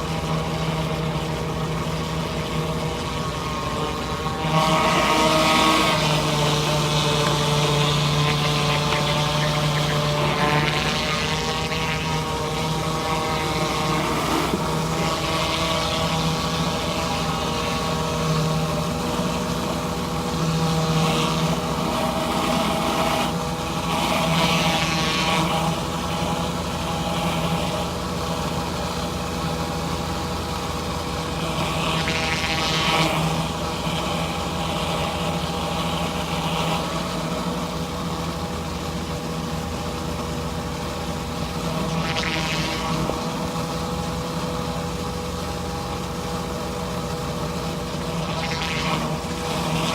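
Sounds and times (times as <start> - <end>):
pressure washer engine droning: 0.0 - 49.9.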